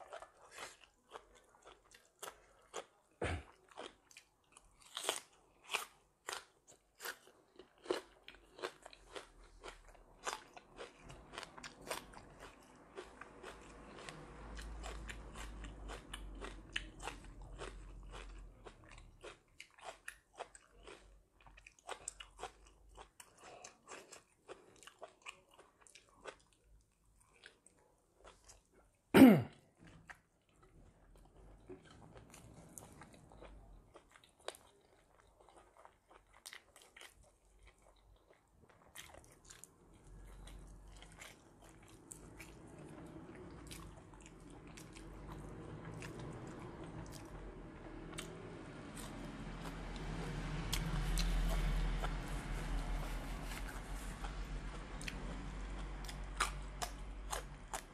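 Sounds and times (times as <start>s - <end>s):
crunching raw vegetables: 0.0s - 27.6s, 29.8s - 57.9s.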